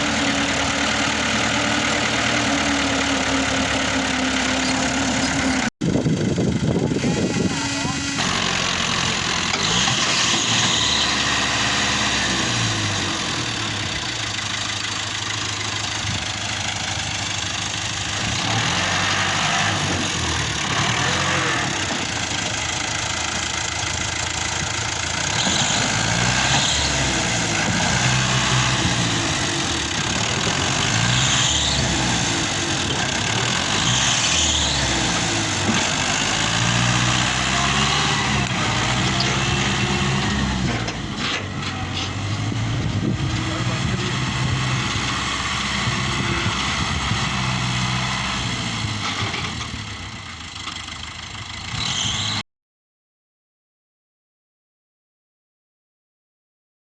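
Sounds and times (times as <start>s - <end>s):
tractor diesel engine running: 0.0s - 52.4s.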